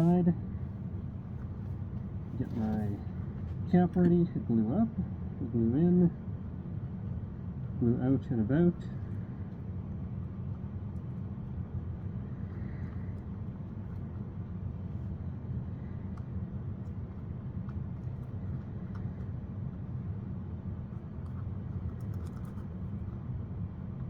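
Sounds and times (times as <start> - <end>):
low machine rumble: 0.0 - 24.0.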